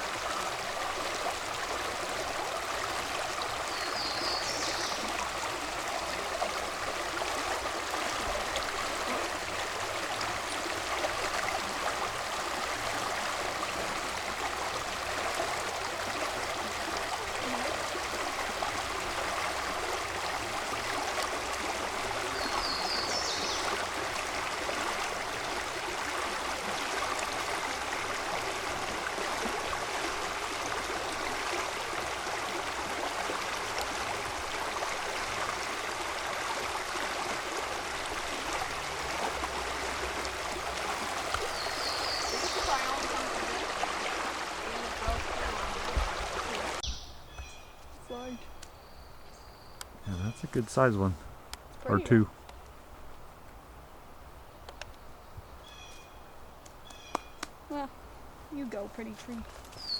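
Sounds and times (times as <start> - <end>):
creek water flowing: 0.0 - 59.9.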